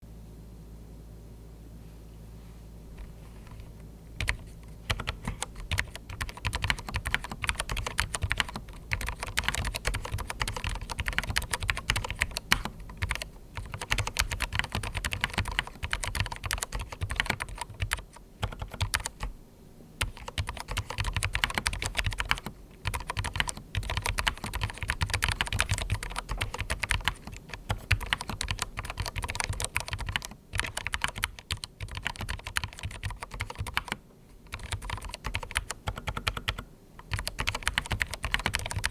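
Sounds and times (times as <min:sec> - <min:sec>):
fast typing on mechanical keyboard: 0:04.2 - 0:19.4, 0:20.0 - 0:38.9.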